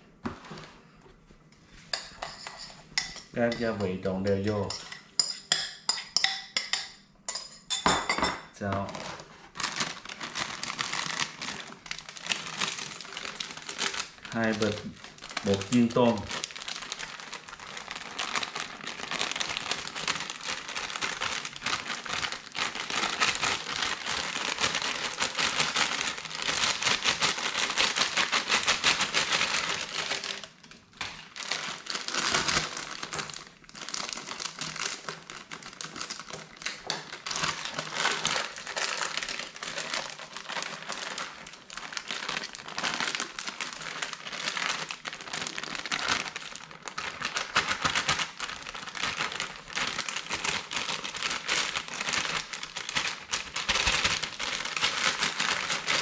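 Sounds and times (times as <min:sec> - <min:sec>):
plastic packets crinkling: 0:08.6 - 0:56.0.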